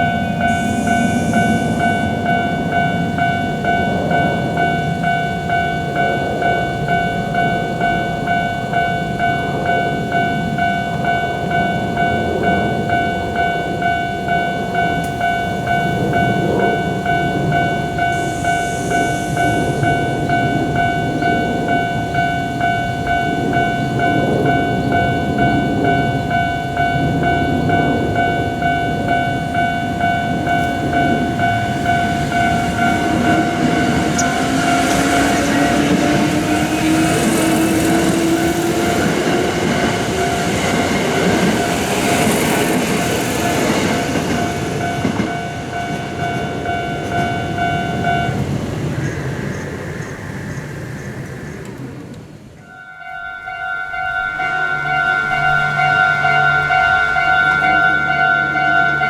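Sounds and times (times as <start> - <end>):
level-crossing warning bell: 0.0 - 59.0
train rumbling past: 0.0 - 59.0.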